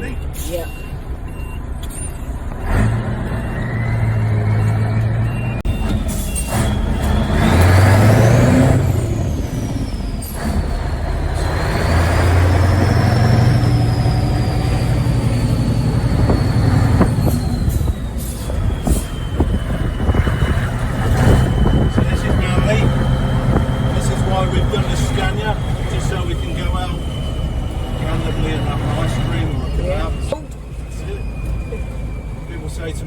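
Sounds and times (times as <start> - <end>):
truck engine pulling away: 0.0 - 33.0.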